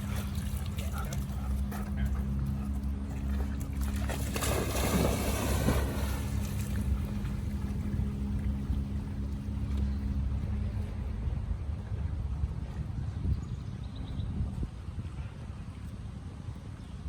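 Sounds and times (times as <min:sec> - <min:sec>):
faint low hum: 0:00.0 - 0:17.0
wind rumbling on microphone: 0:00.0 - 0:17.0.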